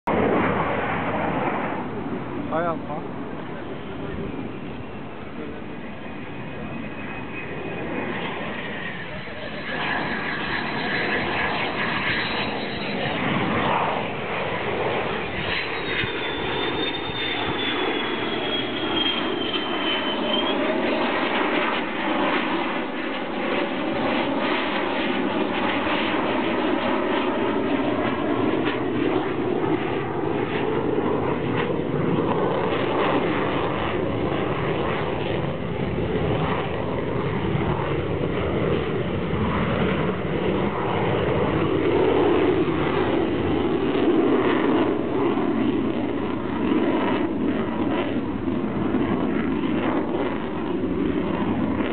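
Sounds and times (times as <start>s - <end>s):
jet engine flying overhead: 0.0s - 51.9s.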